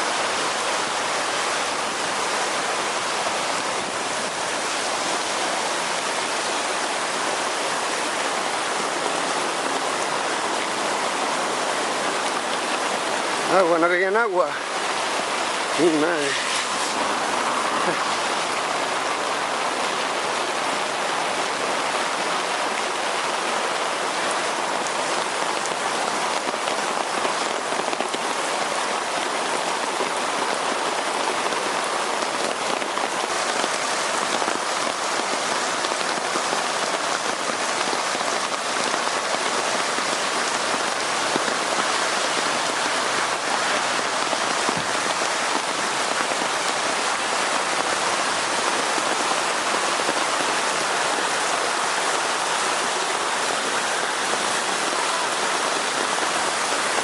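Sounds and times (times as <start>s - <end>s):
heavy rain splashing: 0.0s - 57.0s.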